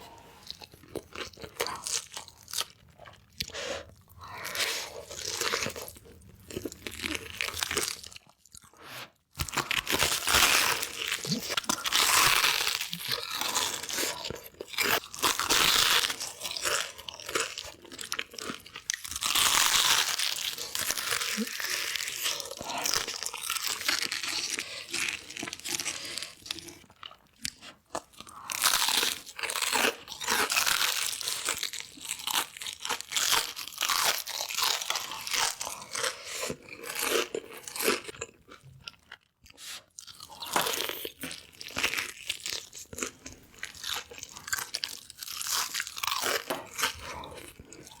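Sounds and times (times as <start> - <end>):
crunching bites and chewing: 0.4 - 48.0.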